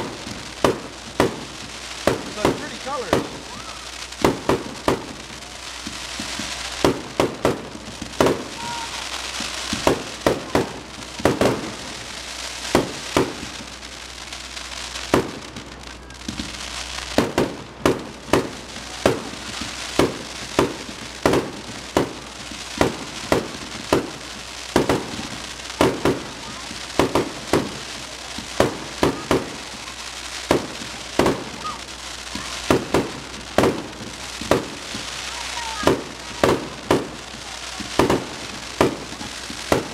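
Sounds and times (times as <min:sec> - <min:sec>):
firework shells bursting: 0:00.0 - 0:14.4, 0:15.0 - 0:39.9
fireworks crackling: 0:00.0 - 0:39.9.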